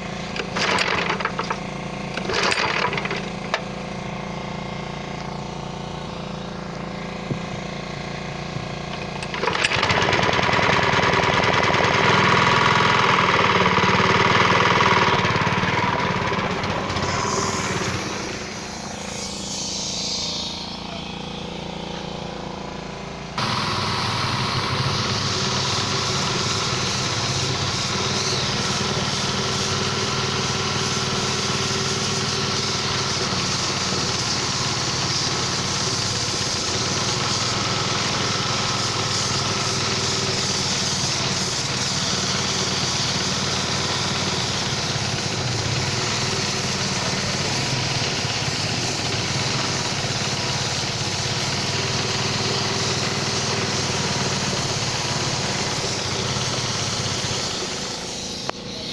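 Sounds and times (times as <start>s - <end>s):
pressure washer running: 0.0s - 58.9s.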